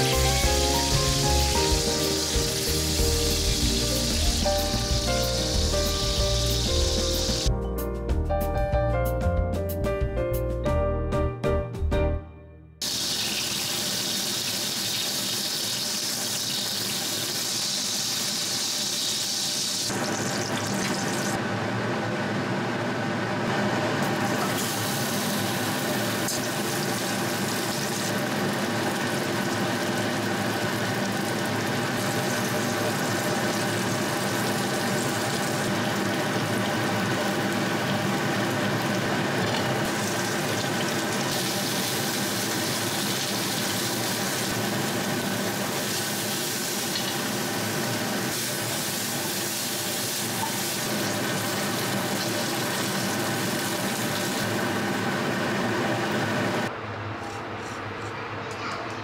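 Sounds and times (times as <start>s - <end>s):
food frying in a pan: 0.0s - 7.5s, 12.8s - 21.4s, 23.6s - 56.7s.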